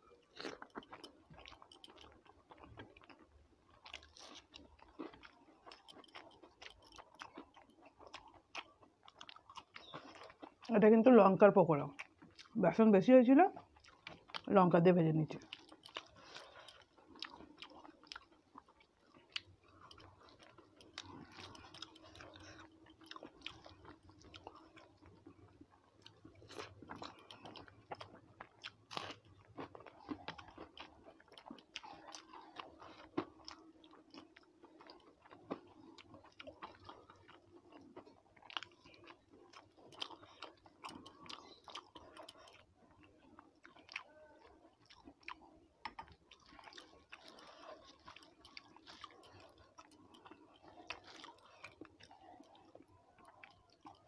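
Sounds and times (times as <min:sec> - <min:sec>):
person chewing and crunching food: 0:00.0 - 0:12.8, 0:13.4 - 0:54.0.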